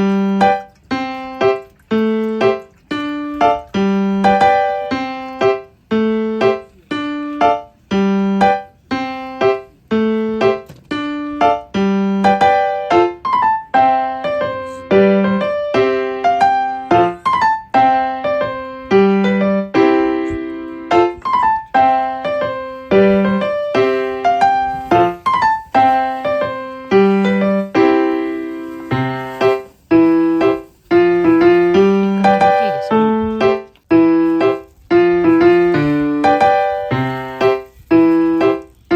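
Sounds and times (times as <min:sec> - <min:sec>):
piano repeating pattern: 0:00.0 - 0:38.9.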